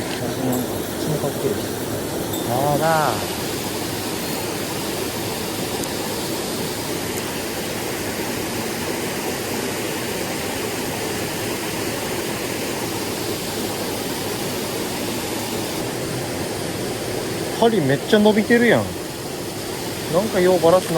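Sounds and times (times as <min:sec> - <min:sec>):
stream water rushing: 0:00.0 - 0:20.9.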